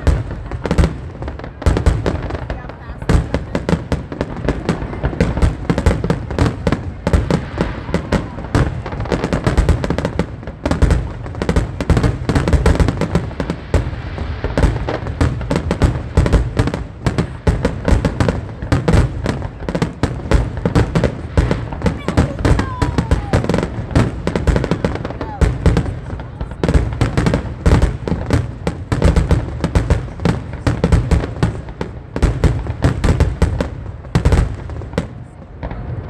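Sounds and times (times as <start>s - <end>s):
fireworks banging: 0.0s - 36.0s.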